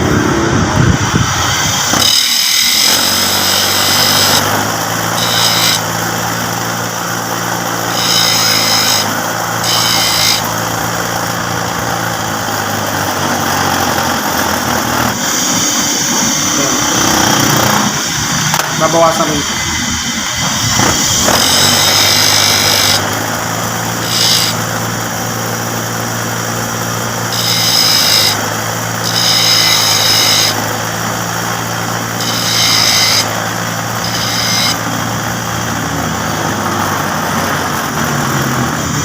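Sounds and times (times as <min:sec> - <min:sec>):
abrasive grinding: 0:00.0 - 0:39.0.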